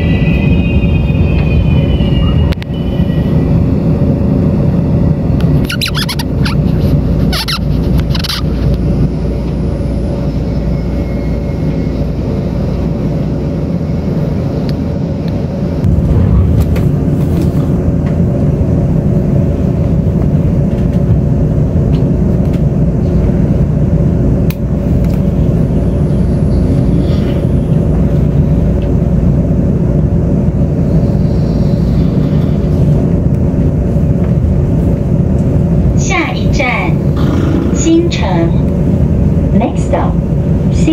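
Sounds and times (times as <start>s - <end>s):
train rumble inside carriage: 0.0s - 40.9s.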